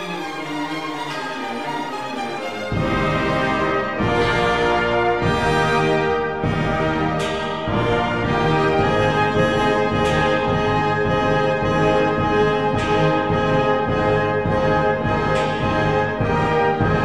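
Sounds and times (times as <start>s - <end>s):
brass sustained chords: 0.0s - 17.0s.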